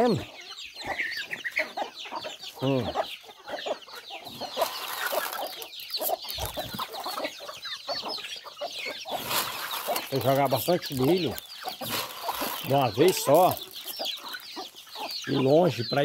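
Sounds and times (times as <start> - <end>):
chicks peeping: 0.0 - 16.0
hens clucking: 0.0 - 16.0.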